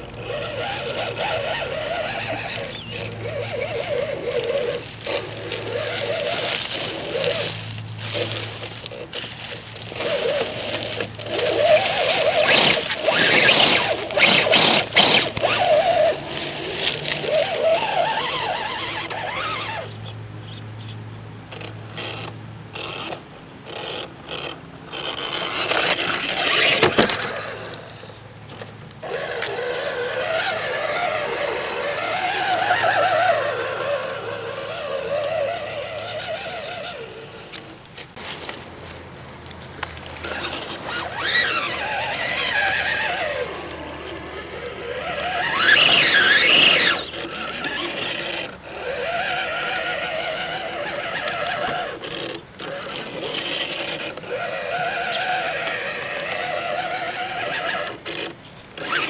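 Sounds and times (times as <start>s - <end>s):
electric motor whining: 0.0s - 59.0s
tyres scrabbling on rock: 0.0s - 59.0s.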